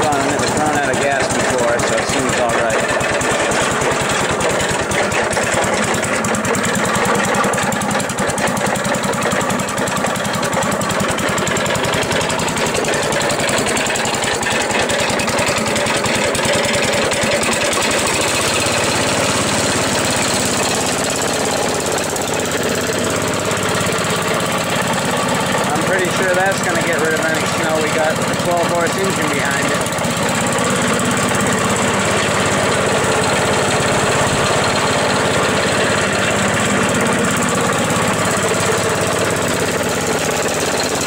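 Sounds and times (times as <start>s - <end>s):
engine chugging steadily: 0.0s - 41.0s.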